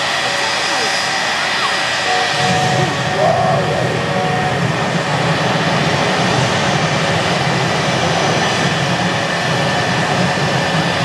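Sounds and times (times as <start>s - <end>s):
jet engines roaring: 0.0s - 11.0s
high whine: 0.1s - 9.3s.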